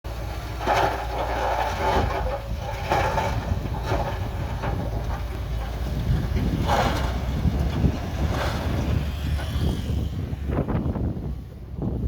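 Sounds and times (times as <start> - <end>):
diesel machinery rumble: 0.0 - 12.0.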